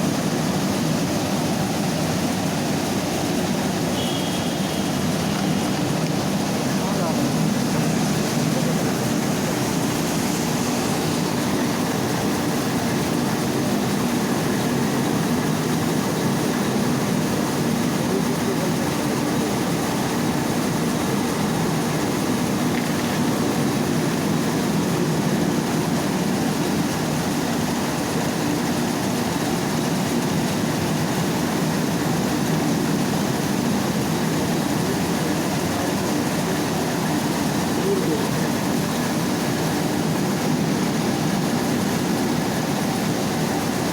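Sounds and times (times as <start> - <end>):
rice milling machine running: 0.0 - 43.9.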